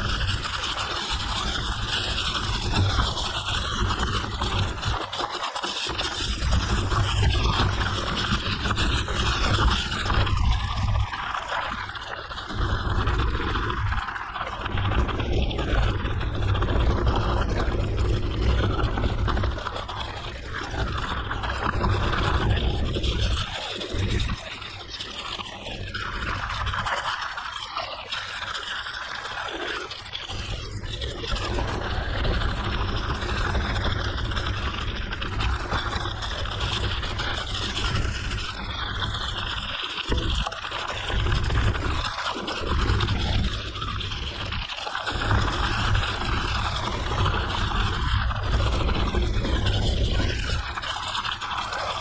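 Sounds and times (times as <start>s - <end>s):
bike tyres scraping over gravel: 0.0s - 52.0s
wind rumbling on microphone: 0.0s - 52.0s.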